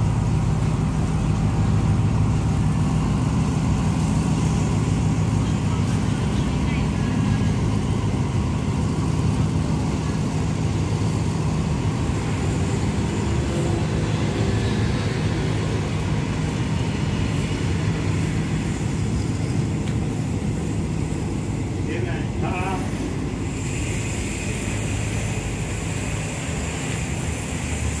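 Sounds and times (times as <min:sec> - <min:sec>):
diesel train engine droning: 0:00.0 - 0:28.0.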